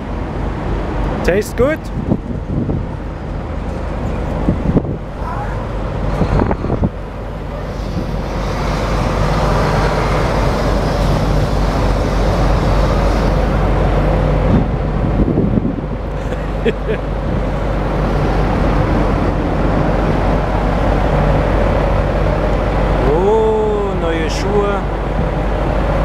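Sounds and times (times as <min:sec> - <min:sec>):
truck engine running: 0:01.8 - 0:26.0.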